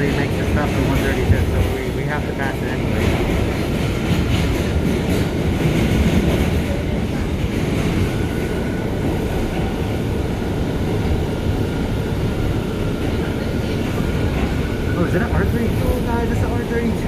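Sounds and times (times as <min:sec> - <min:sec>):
subway car wheels rumbling on rails: 0:00.0 - 0:17.0.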